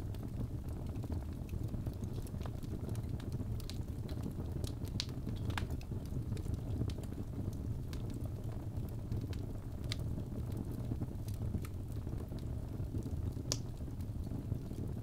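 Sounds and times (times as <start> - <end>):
fire crackles and pops: 0.0 - 15.0
fire flame rumble: 0.0 - 15.0.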